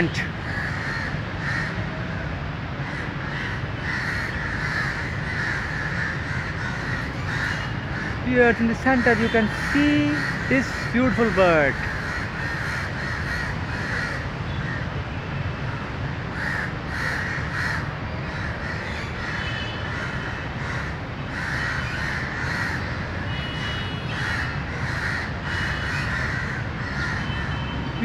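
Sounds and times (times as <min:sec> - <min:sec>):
crows cawing: 0:00.4 - 0:14.9, 0:15.7 - 0:28.0.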